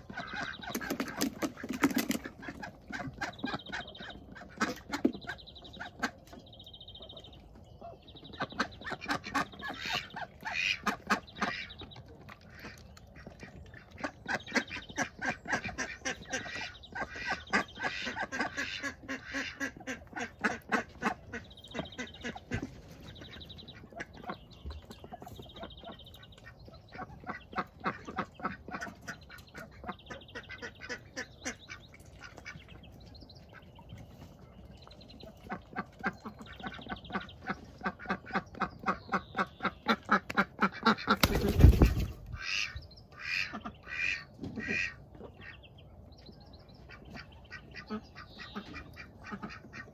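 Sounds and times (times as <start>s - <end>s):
ducks quacking: 0.0s - 6.4s, 7.8s - 34.4s, 35.2s - 45.7s, 46.8s - 49.9s.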